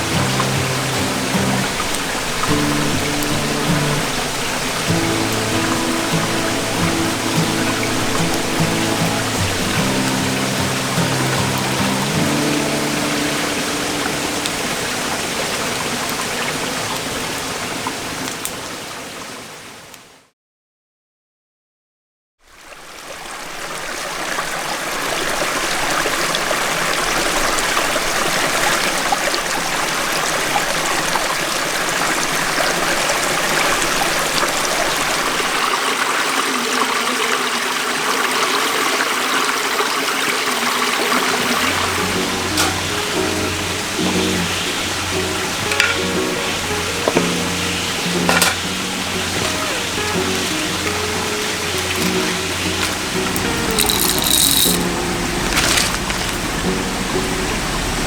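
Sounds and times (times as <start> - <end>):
stream rushing over rocks: 0.0 - 20.1, 22.5 - 58.0.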